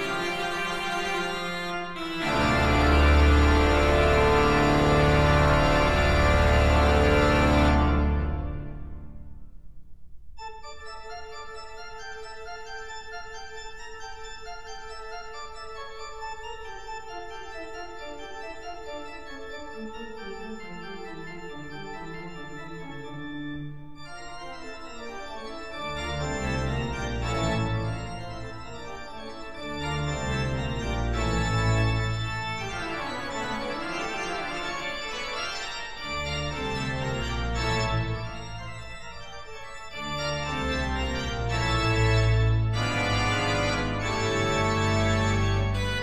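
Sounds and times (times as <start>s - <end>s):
organ music: 0.0s - 9.6s, 10.4s - 46.0s.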